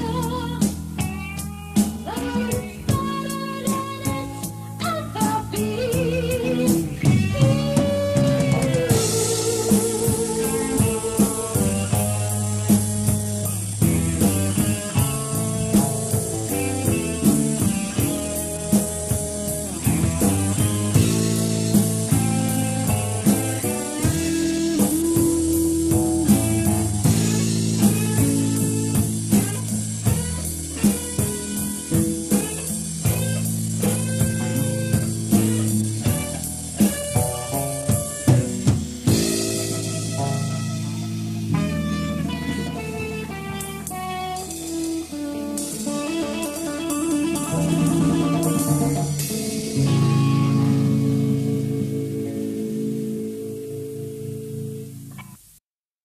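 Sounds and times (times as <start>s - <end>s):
cymbals: 0.0s - 52.2s
drum kit beat: 0.0s - 55.6s
electric guitar: 0.0s - 55.6s
rock band playing: 0.0s - 55.6s.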